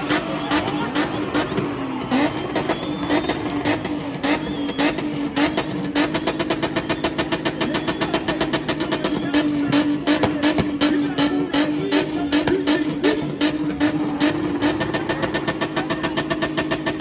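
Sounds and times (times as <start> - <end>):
car engine revving hard: 0.0 - 17.0
rapid stutter of sharp pulses: 0.0 - 17.0.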